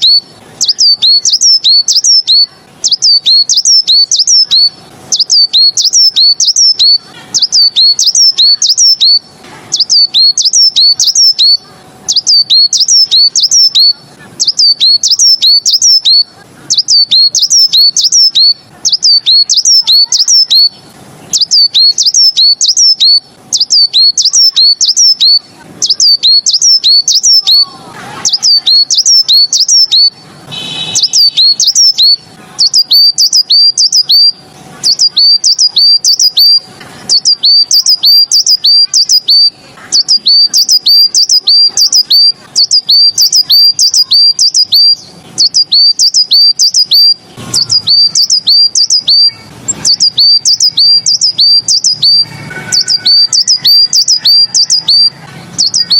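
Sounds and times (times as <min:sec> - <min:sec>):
songbird singing high sharp notes: 0:00.0 - 0:55.9.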